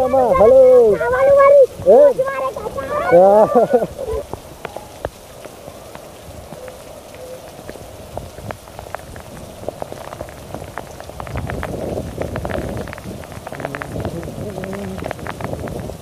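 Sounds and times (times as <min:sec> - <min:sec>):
close raindrops ticking: 0:00.0 - 0:16.0
heavy rain falling: 0:00.0 - 0:16.0.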